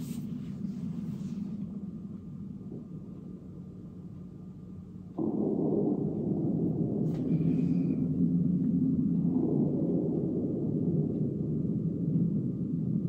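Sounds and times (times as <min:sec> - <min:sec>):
deep muffled rumble: 0:00.0 - 0:13.0.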